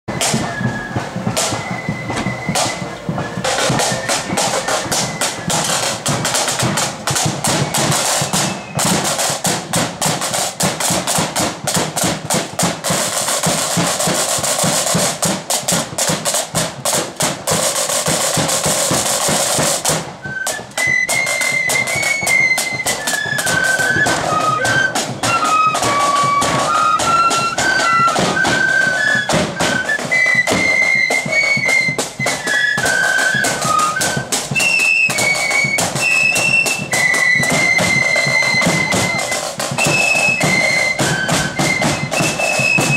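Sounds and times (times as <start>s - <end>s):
drum roll: 0.1s - 42.9s
flute melody: 0.1s - 42.9s
marching drums and cymbals: 0.1s - 42.9s.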